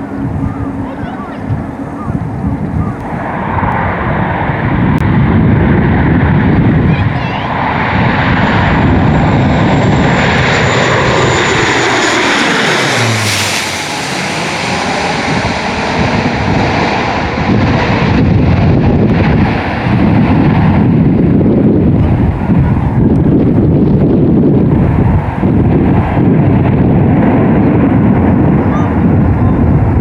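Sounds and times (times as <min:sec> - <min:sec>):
airliner engine passing: 0:00.0 - 0:30.0
wind rumbling on microphone: 0:00.0 - 0:30.0.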